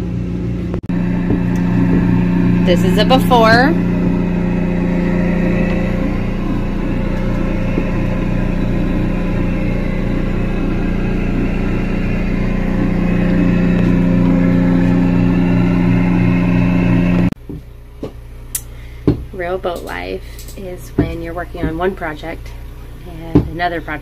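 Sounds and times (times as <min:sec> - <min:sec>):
motor running with rough drone: 0:00.0 - 0:24.0.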